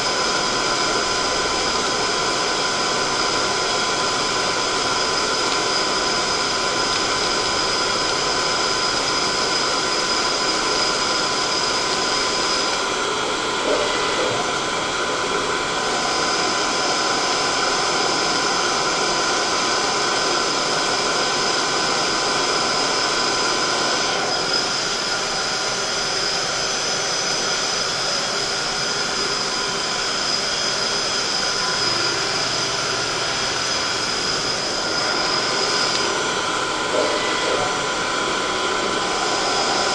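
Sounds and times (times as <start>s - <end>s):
high steady whine: 0.0s - 39.9s
machine tool running: 0.0s - 39.9s.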